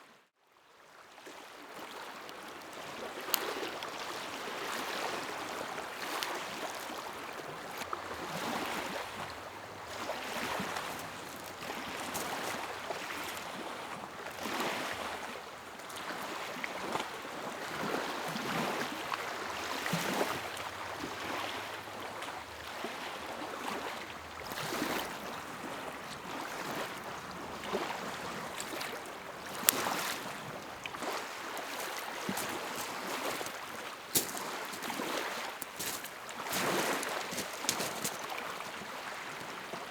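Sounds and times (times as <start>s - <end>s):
waves lapping at shore: 0.9s - 39.9s.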